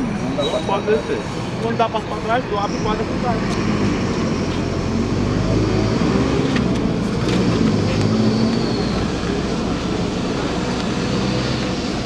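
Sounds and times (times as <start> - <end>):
city bus rumble: 0.0 - 12.0
road traffic passing: 0.0 - 12.0.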